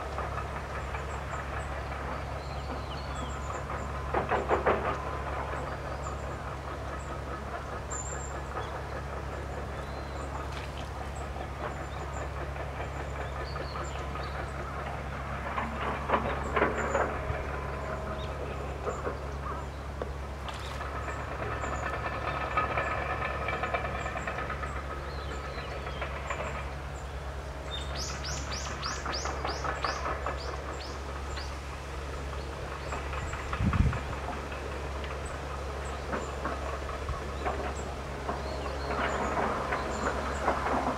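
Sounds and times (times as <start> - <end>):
low mechanical rumble: 0.0 - 40.9.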